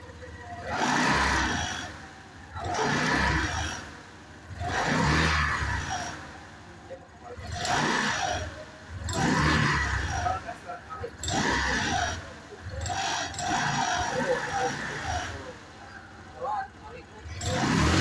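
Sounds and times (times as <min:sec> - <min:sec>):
exhaust roaring on throttle blips: 0:00.0 - 0:18.0.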